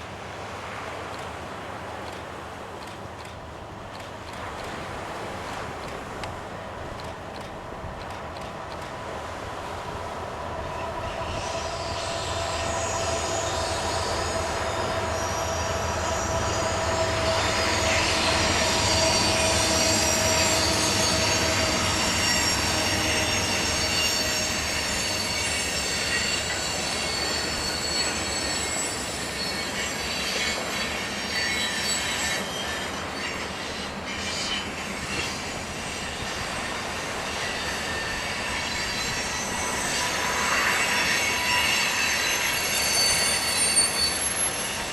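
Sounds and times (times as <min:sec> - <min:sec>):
train wheels squealing on rails: 0:00.0 - 0:44.9
train cars rolling rumble: 0:00.1 - 0:44.9.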